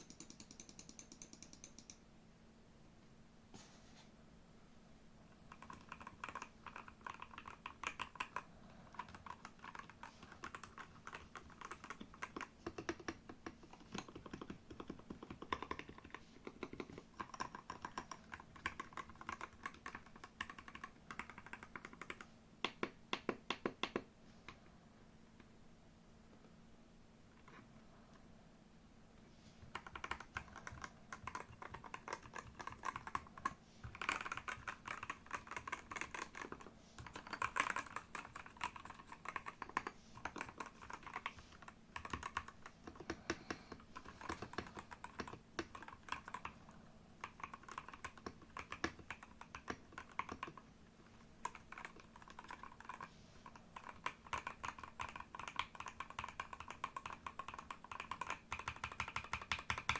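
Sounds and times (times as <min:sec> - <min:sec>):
mechanical keyboard typing: 0:00.0 - 0:02.0, 0:05.5 - 0:24.0, 0:29.7 - 0:46.6, 0:47.2 - 0:50.6, 0:51.4 - 0:59.9.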